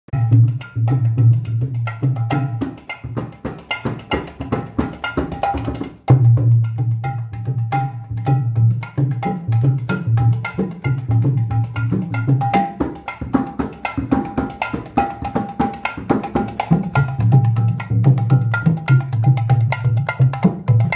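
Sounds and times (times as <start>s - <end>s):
hand drum played fast: 0.2s - 20.9s.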